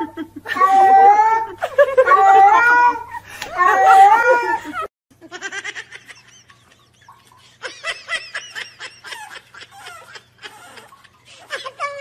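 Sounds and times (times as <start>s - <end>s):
high-pitched giggling: 0.0s - 12.0s.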